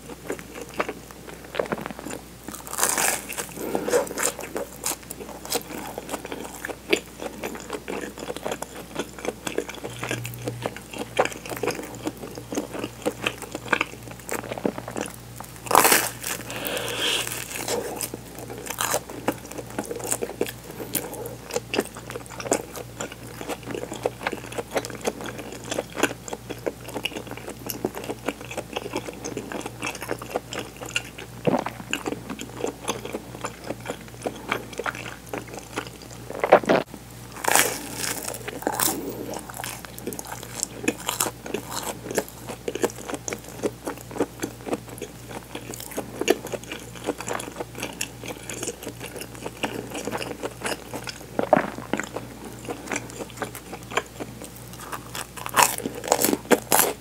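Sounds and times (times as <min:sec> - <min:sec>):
crunching and chewing toasted bread: 0:00.0 - 0:57.0.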